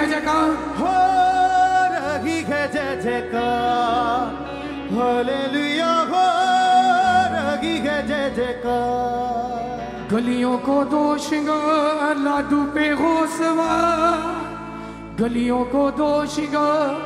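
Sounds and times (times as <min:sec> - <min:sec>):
keyboards and bass: 0:00.0 - 0:17.0.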